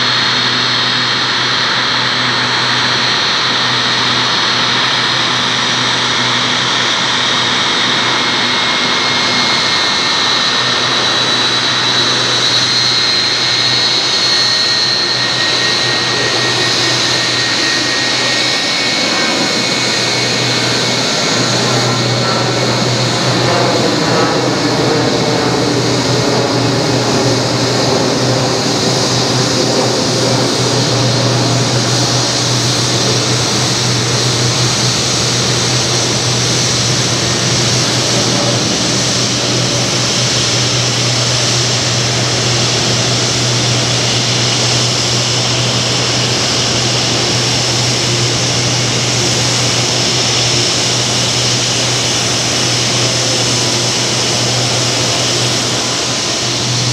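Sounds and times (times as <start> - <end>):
jet engines idling: 0.0 - 56.9.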